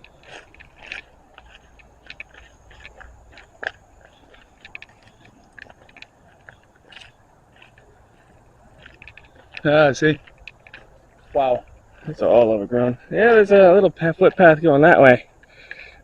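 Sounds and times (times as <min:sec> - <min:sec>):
footsteps crunching through dry brush: 0:00.0 - 0:14.7.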